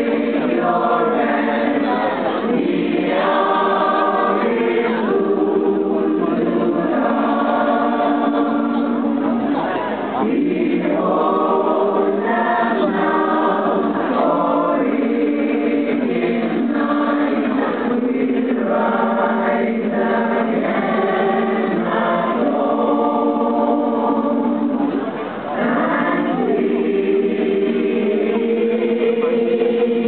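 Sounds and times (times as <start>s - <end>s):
choir singing: 0.0s - 30.0s.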